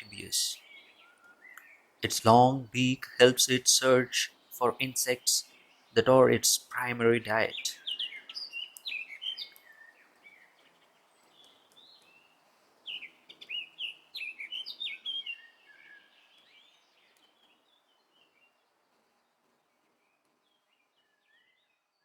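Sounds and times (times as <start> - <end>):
birds chirping: 0.0 - 22.0
faint background hiss: 0.0 - 22.0.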